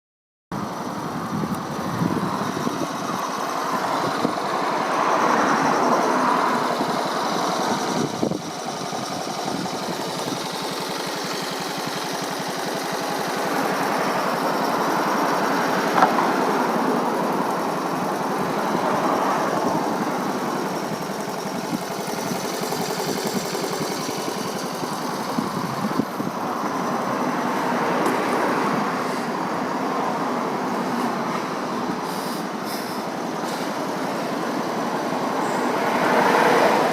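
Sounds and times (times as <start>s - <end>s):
small motorcycle engine running: 0.6s - 36.9s.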